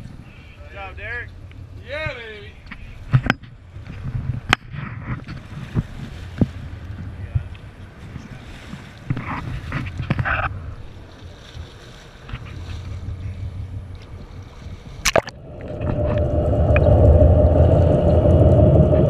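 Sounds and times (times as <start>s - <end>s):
muffled underwater rumble: 0.0s - 19.0s
water splashing against hull: 0.0s - 19.0s.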